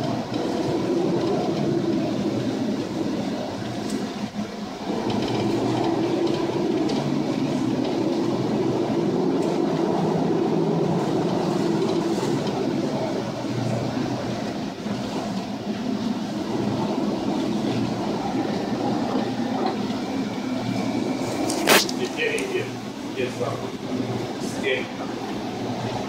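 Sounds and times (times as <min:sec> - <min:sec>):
heavy seas: 0:00.0 - 0:26.0
ship engine: 0:00.0 - 0:26.0
wind: 0:00.0 - 0:26.0.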